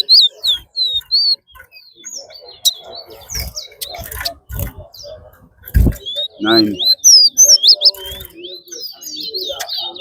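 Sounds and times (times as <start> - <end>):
soft bird chirps: 0.0 - 10.0
songbirds whistling: 0.0 - 10.0.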